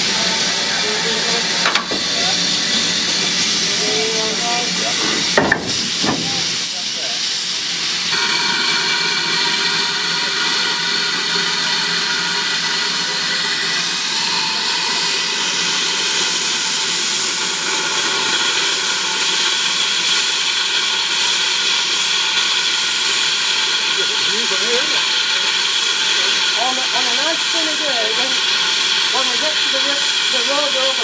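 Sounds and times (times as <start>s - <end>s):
steam locomotive hissing steam: 0.0s - 31.0s.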